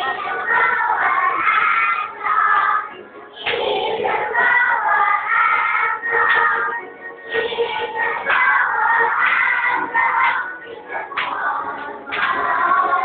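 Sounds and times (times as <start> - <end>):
children singing: 0.0 - 13.0
music: 0.0 - 13.0.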